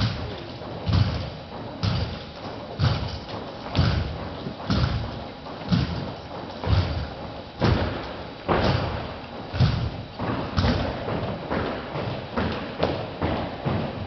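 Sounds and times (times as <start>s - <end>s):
rifles and boots thudding on floor: 0.0s - 14.0s.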